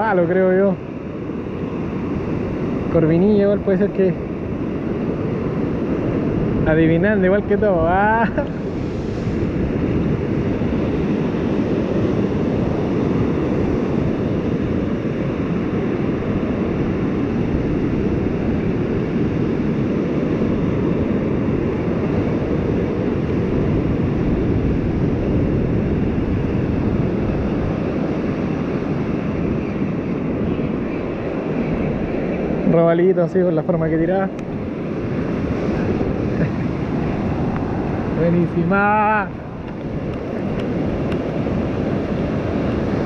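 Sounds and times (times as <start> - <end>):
surf washing up beach: 0.0 - 43.0
wind rumble on microphone: 0.0 - 43.0.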